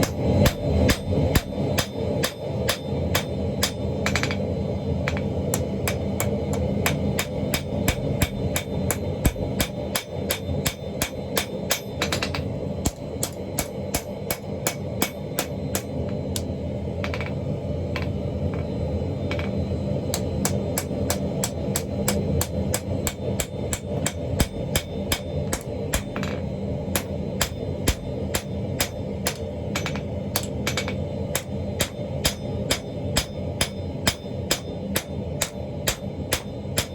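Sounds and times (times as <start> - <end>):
hammer striking billet on anvil: 0.0 - 4.4, 5.0 - 17.4, 19.3 - 36.9
low hum: 0.0 - 36.9.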